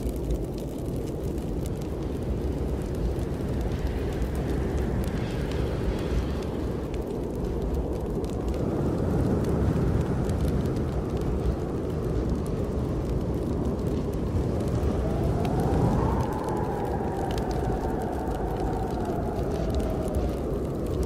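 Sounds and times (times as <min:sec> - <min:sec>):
snowstorm wind howling: 0:00.0 - 0:21.0
wood fire crackling: 0:00.0 - 0:21.0.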